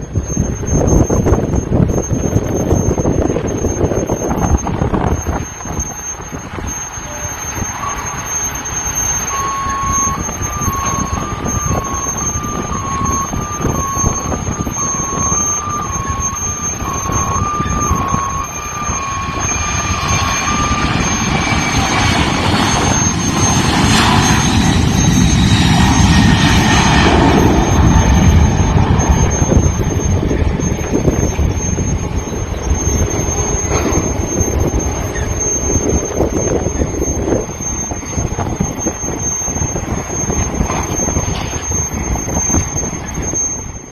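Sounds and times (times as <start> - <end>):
jet engines at takeoff power: 0.0 - 43.9.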